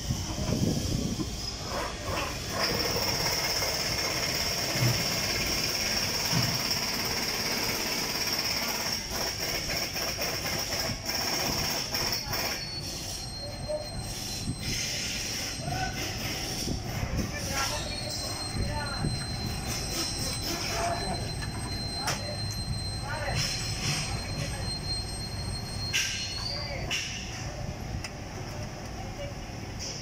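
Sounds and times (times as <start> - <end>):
belt pulley squealing: 1.2 - 27.2.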